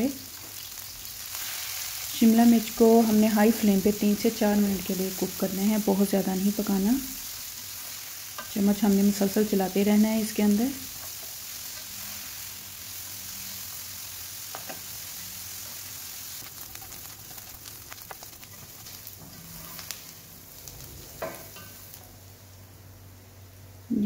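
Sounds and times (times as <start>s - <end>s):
peppers sizzling in oil: 0.0s - 22.5s.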